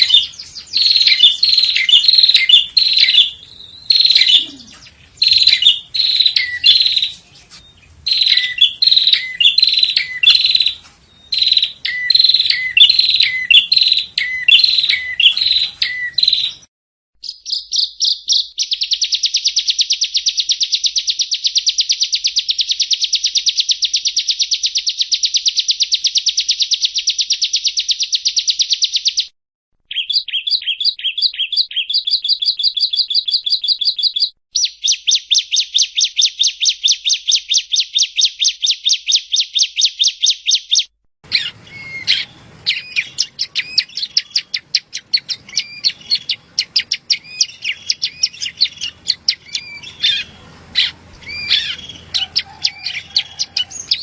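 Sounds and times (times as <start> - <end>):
bird singing rapid high notes: 0.0 - 29.3, 29.9 - 54.0
irregular bird chirps: 0.0 - 54.0.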